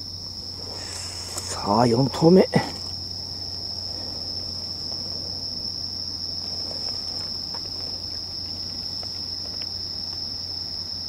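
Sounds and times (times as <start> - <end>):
low steady hum: 0.0 - 11.0
night insects chirring: 0.0 - 11.0.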